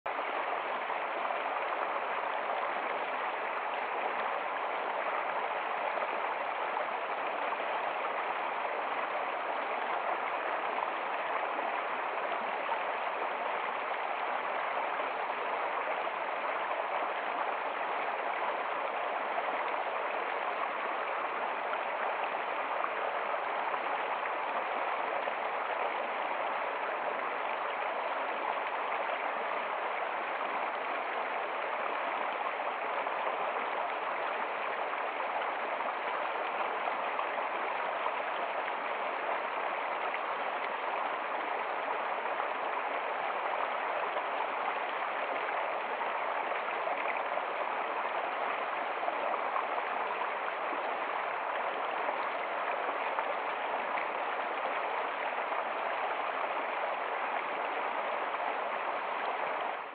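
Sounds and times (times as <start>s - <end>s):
water rushing over rocks: 0.1s - 59.9s.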